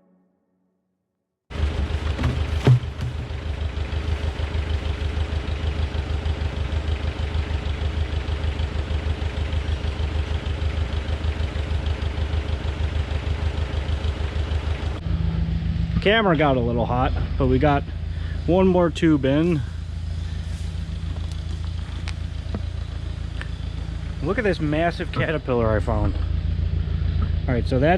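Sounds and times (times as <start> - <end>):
tractor engine idling: 1.5 - 15.0, 17.2 - 27.8.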